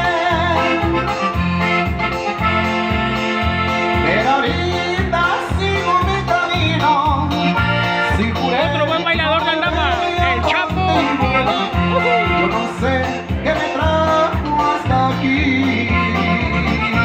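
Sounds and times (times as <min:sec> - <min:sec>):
person singing: 0:00.0 - 0:01.6, 0:03.9 - 0:17.0
accordion melody: 0:00.0 - 0:17.0.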